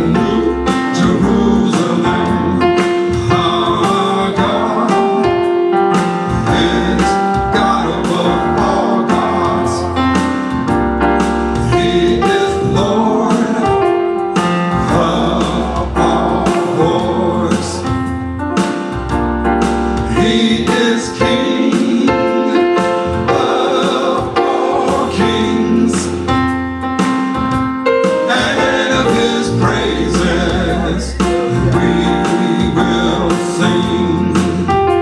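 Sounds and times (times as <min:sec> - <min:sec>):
sustained bass: 0:00.0 - 0:04.9, 0:06.2 - 0:14.1, 0:14.7 - 0:21.4, 0:22.8 - 0:27.6, 0:28.4 - 0:35.0
person singing: 0:00.0 - 0:10.2, 0:11.6 - 0:18.1, 0:20.0 - 0:26.3, 0:28.2 - 0:35.0
electric keyboard chords: 0:00.0 - 0:35.0.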